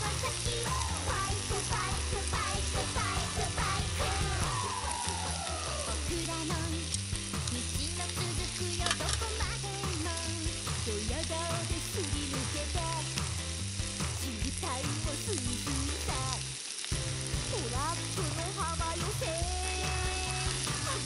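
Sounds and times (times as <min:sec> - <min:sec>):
background music: 0:00.0 - 0:21.0
meat sizzling in a frying pan: 0:00.0 - 0:21.0.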